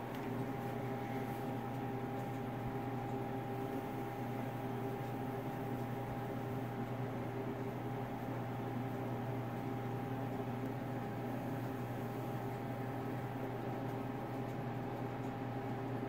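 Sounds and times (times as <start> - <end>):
jukebox electrical hum and hiss: 0.0 - 16.0.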